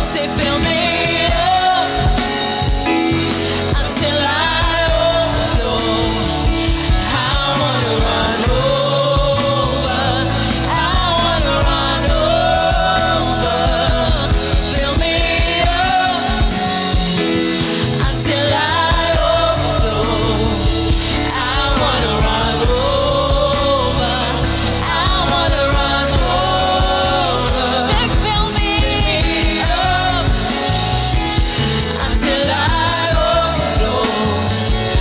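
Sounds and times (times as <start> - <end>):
gospel worship music: 0.0 - 35.0.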